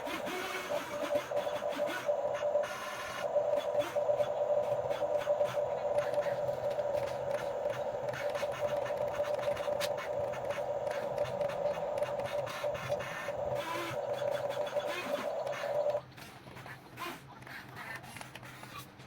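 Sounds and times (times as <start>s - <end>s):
toy excavator motors whining: 0.0s - 16.0s.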